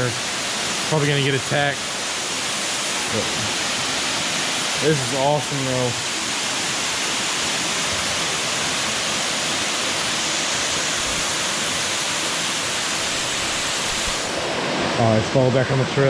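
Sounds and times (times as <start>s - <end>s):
waterfall rushing into a pool: 0.0s - 16.0s.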